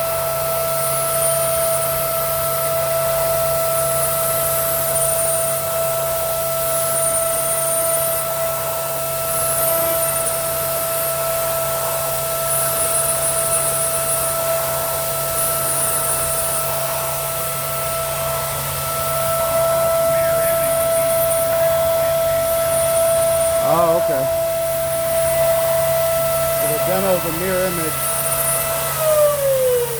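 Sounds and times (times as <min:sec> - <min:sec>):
cnc router whining: 0:00.0 - 0:29.9.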